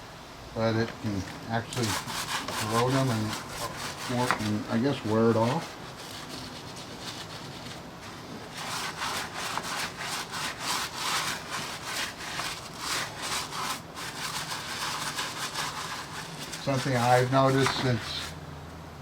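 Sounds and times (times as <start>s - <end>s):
scrubbing strokes on metal: 1.6s - 18.4s.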